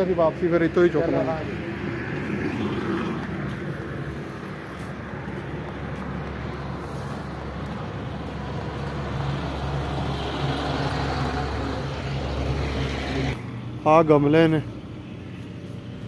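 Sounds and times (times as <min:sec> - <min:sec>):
low hum of road traffic: 0:00.0 - 0:16.0.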